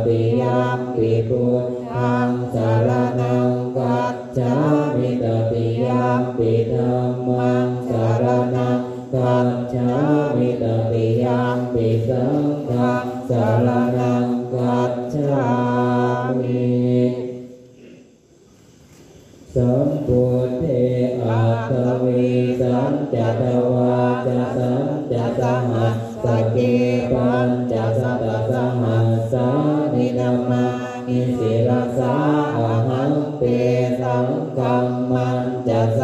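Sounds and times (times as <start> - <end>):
monks chanting in unison: 0.0 - 18.0, 19.5 - 36.0.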